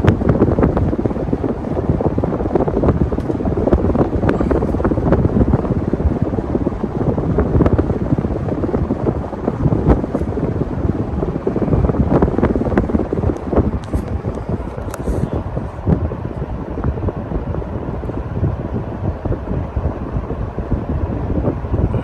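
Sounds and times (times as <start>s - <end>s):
fan wind buffeting microphone: 0.0s - 22.0s.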